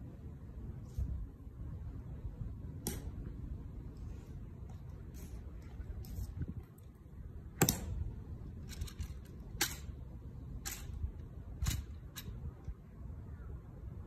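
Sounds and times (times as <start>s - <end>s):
low outdoor murmur: 0.0s - 14.0s.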